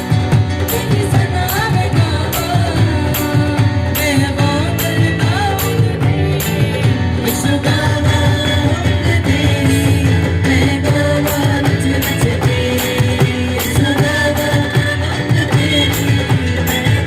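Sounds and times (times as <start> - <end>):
worship song by live band: 0.0 - 17.0.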